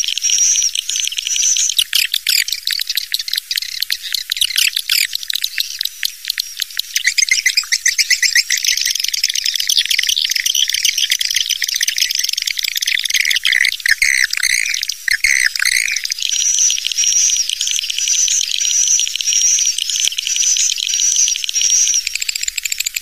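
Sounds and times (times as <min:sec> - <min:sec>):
swiftlets twittering: 0:00.0 - 0:23.0.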